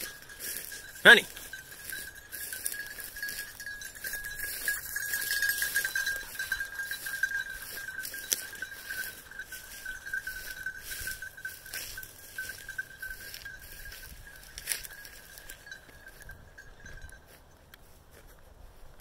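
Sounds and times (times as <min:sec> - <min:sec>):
dog collar bell ringing: 0:00.0 - 0:17.6.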